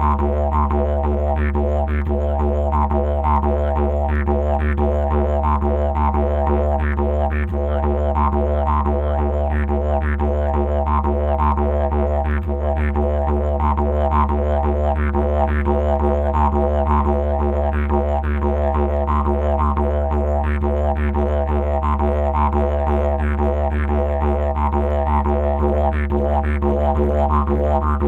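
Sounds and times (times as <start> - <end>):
didgeridoo drone: 0.0 - 28.0.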